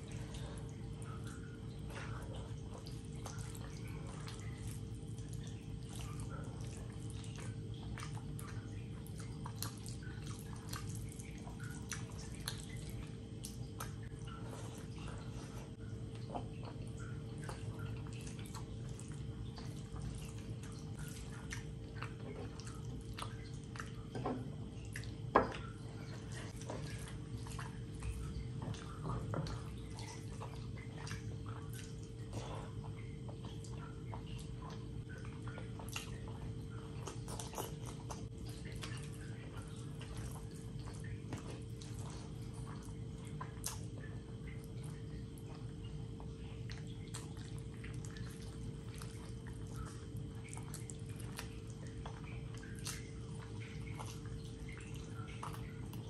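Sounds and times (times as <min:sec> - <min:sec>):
faint steady hum: 0:00.0 - 0:56.0
open-mouthed chewing: 0:00.0 - 0:56.0.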